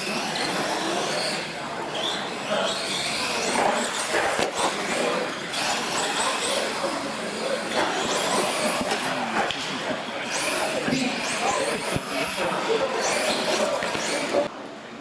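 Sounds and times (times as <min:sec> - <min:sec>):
people talking: 0:00.0 - 0:15.0.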